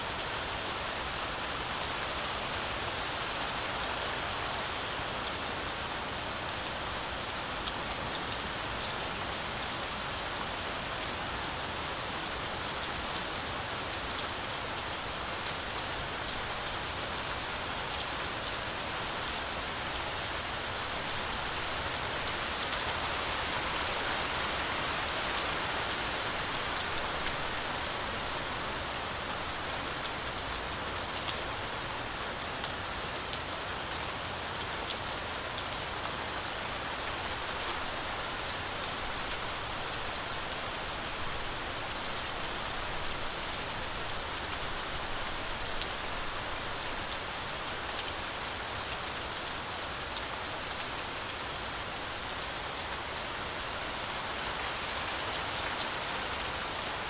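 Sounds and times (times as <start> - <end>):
sharp ticks of raindrops: 0.0 - 57.0.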